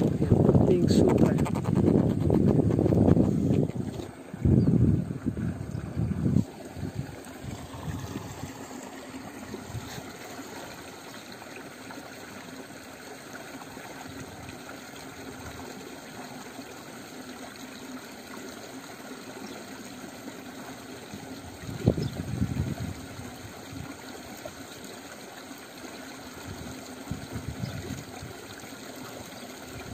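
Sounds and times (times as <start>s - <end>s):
water trickling: 0.0s - 29.9s.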